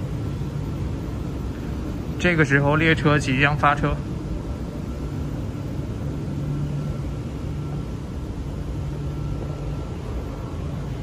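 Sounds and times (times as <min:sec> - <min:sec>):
air conditioning hum and hiss: 0:00.0 - 0:11.0.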